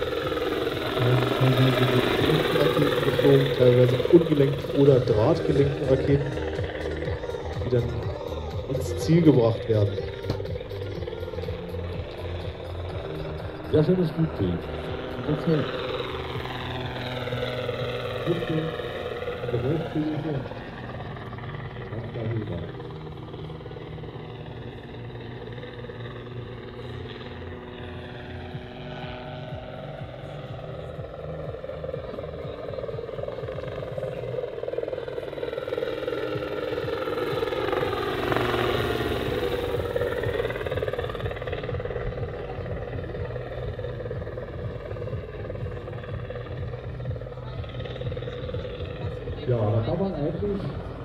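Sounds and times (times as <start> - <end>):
electric motor whine: 0.0 - 51.0
model helicopter rotor hum: 0.0 - 51.0.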